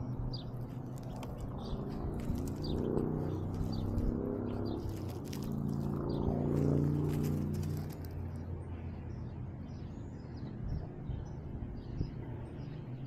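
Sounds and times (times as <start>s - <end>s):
bird chirping: 0.0s - 13.0s
low droning hum: 0.0s - 13.0s.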